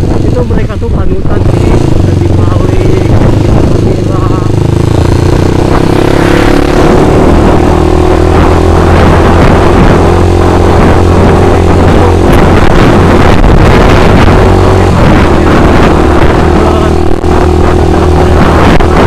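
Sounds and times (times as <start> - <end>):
motorcycle engine running: 0.0 - 19.0
rushing noise: 0.0 - 19.0.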